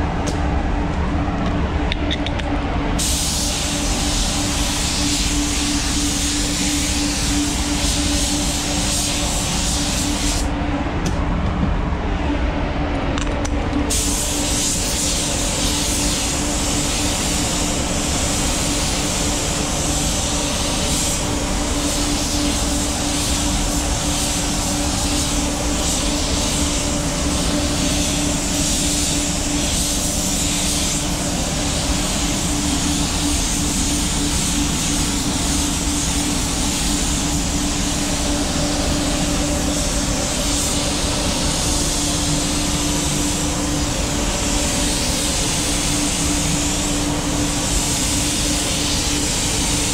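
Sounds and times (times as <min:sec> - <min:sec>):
spray booth hum: 0:00.0 - 0:49.9
paint spray gun hissing: 0:03.0 - 0:10.5, 0:13.9 - 0:49.9.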